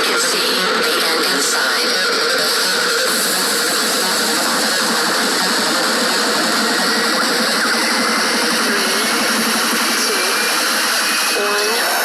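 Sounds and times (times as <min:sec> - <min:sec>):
rock music through small speaker: 0:00.0 - 0:12.0.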